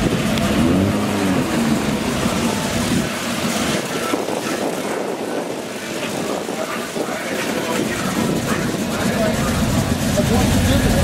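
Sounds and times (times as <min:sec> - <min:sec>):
car engine running: 0:00.0 - 0:11.0
deep engine rumble: 0:00.0 - 0:11.0.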